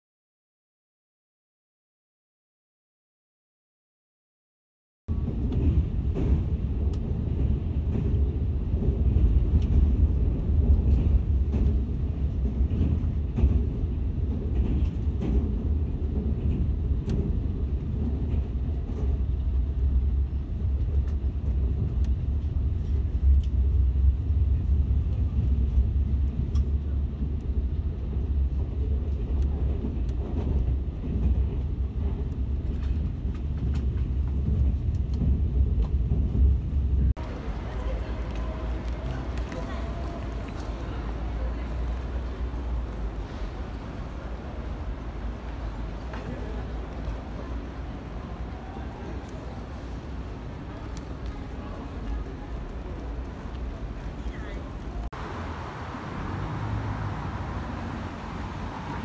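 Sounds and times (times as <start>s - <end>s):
train rumbling on track: 5.1s - 59.0s.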